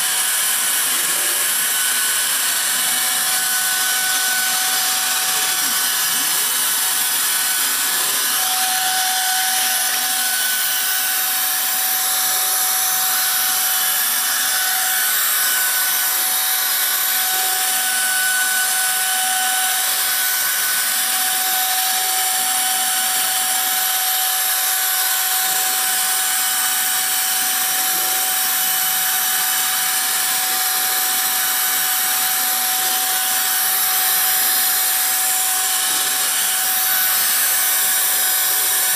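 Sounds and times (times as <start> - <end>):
bit cutting board: 0.0 - 38.9
cnc router spindle whine: 0.0 - 38.9.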